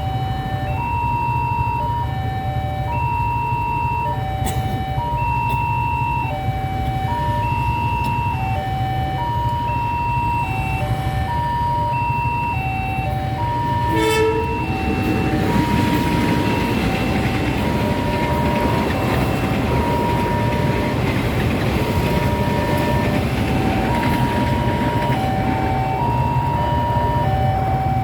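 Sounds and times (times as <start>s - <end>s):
electronic crossing warning tones: 0.0s - 28.0s
train running past: 0.0s - 28.0s.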